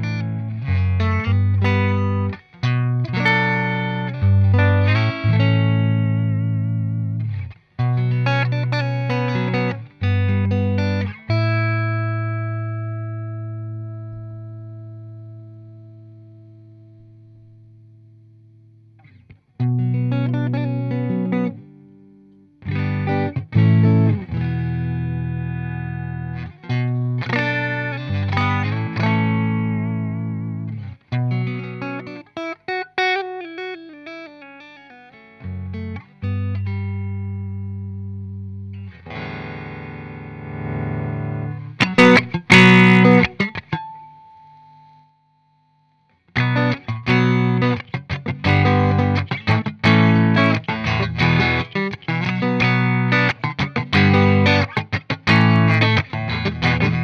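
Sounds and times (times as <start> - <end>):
electric guitar playing: 0.0 - 45.1, 45.8 - 57.0.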